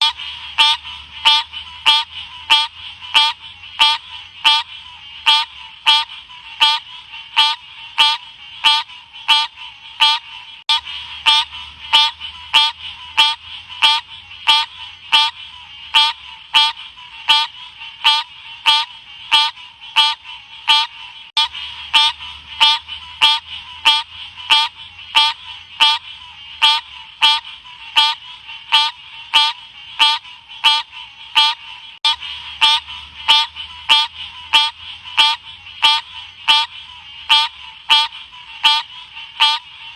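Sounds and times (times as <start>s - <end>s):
frog chirping calls: 0.0s - 39.9s.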